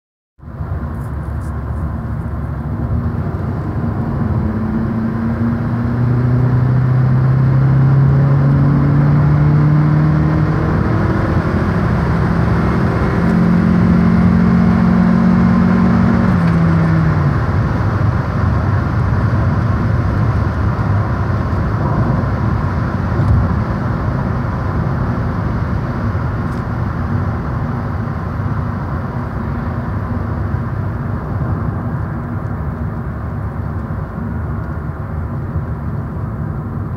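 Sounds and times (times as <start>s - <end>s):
car engine accelerating: 0.5s - 36.9s.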